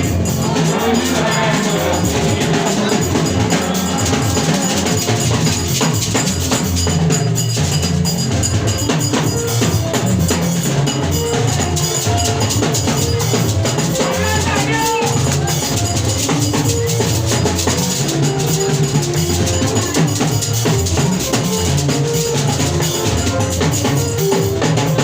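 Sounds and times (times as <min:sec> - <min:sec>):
bass line: 0:00.0 - 0:25.0
drum kit: 0:00.0 - 0:25.0
hand percussion: 0:00.0 - 0:25.0.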